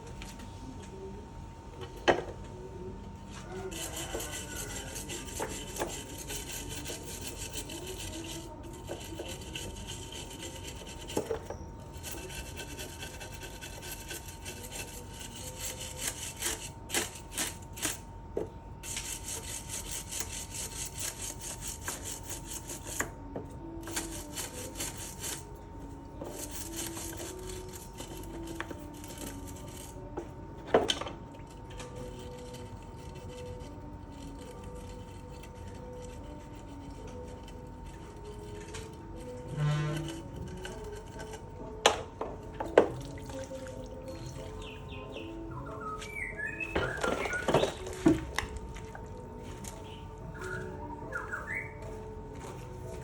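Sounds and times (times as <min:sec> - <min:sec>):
hand rubbing and scraping strokes: 0:03.3 - 0:18.1, 0:18.8 - 0:30.4, 0:31.5 - 0:53.0.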